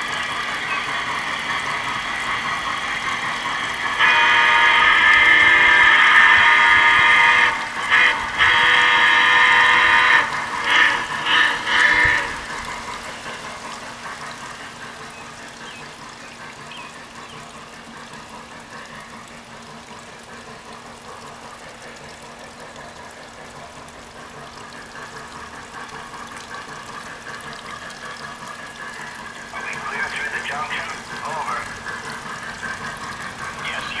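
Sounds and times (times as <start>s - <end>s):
model train rolling on track: 0.0s - 34.0s
water trickling: 0.0s - 34.0s.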